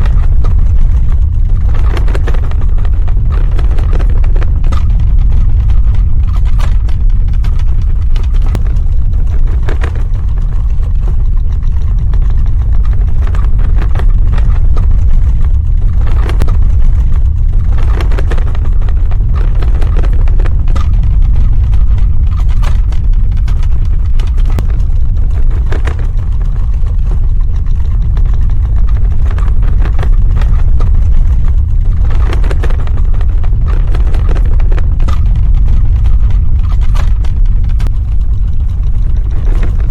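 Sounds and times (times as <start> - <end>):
crackles and knocks: 0.0 - 39.9
deep earthquake rumble: 0.0 - 39.9.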